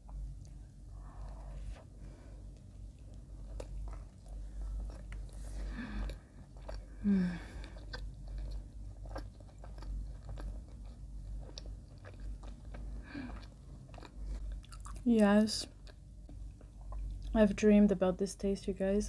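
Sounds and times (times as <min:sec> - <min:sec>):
person chewing bread: 0:00.0 - 0:17.4.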